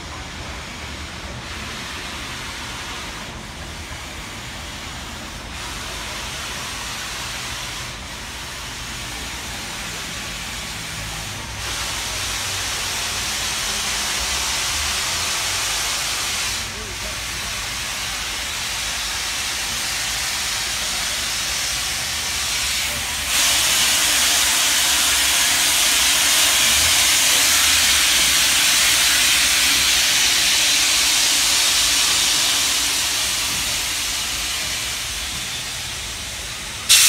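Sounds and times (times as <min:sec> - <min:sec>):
steam locomotive hissing: 0:00.0 - 0:37.0.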